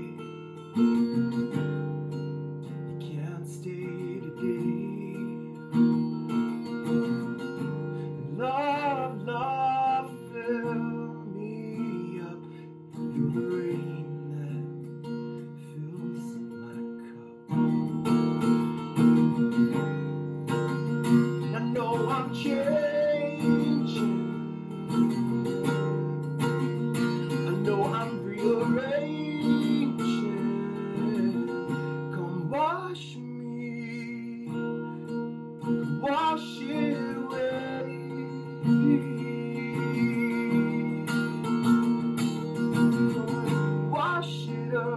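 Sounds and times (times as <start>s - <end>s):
man singing: 0.0s - 1.6s, 2.9s - 17.8s, 21.1s - 25.8s, 27.0s - 44.9s
strummed acoustic guitar: 0.0s - 44.9s.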